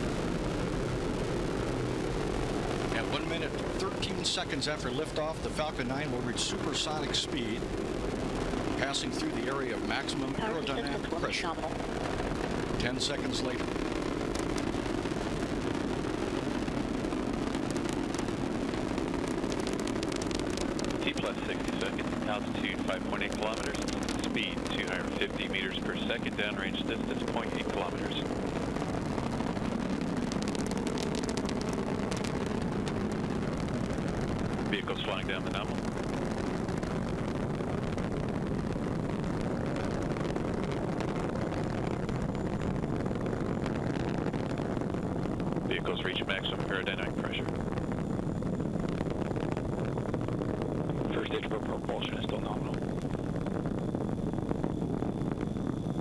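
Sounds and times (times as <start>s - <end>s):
rocket engine rumble: 0.0s - 56.0s.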